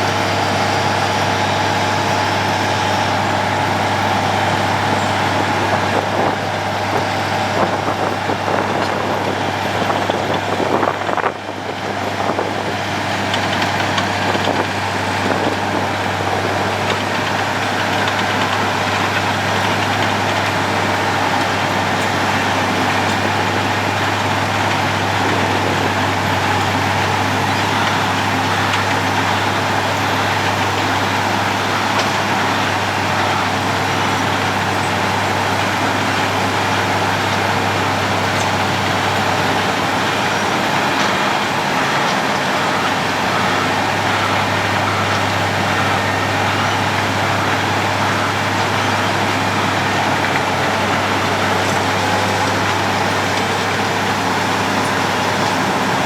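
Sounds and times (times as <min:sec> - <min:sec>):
road milling machine running: 0:00.0 - 0:56.0.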